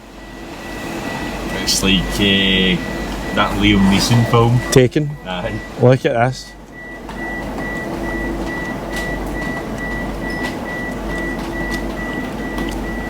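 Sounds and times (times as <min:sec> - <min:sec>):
high electronic warning beeps: 0:00.0 - 0:13.0
ventilation hum: 0:00.0 - 0:13.0.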